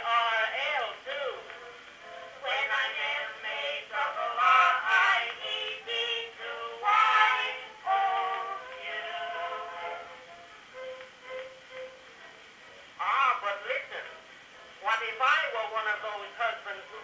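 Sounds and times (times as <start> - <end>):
old phonograph record singing: 0.0 - 17.0.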